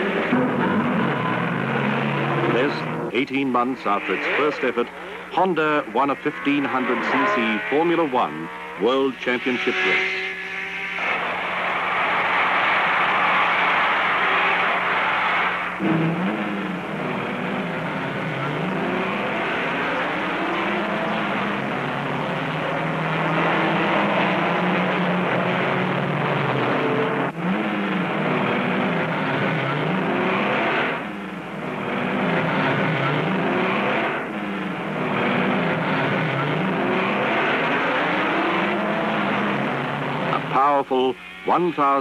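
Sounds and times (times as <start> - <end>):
racing car engines accelerating: 0.0 - 42.0.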